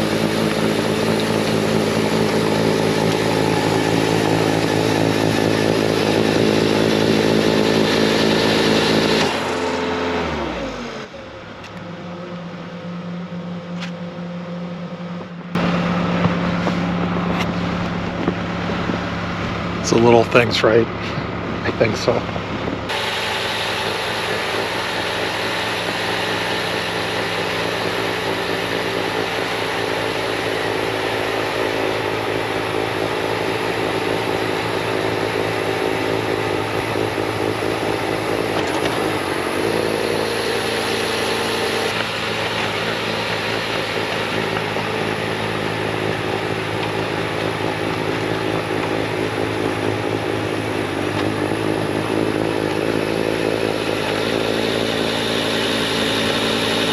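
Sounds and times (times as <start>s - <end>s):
diesel engine at full throttle: 0.0s - 56.9s.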